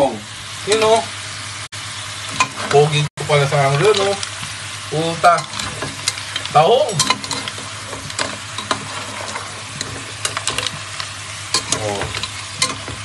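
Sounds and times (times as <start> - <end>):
pot hissing on burner: 0.0 - 13.0.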